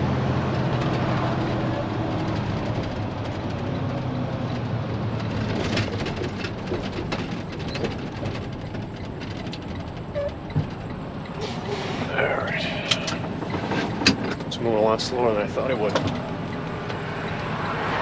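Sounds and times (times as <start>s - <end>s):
diesel engine drone in cab: 0.0s - 18.0s.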